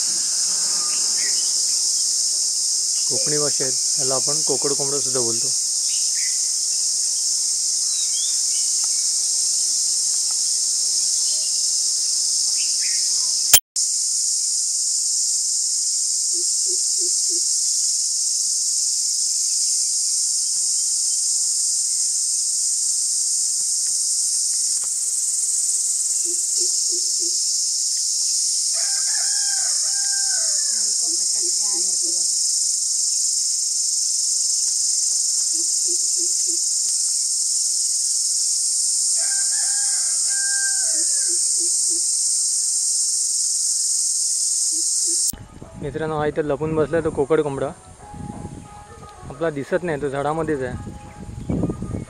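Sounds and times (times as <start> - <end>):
insect chorus: 0.0 - 52.0.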